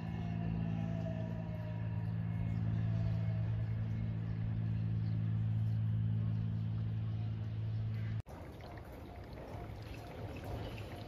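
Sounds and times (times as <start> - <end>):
engine hum with whine: 0.0 - 11.0.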